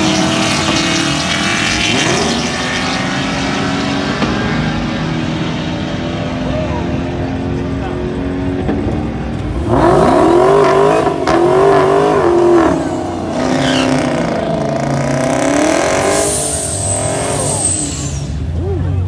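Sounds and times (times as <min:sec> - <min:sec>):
car engine revving hard: 0:00.0 - 0:06.4, 0:09.5 - 0:18.4.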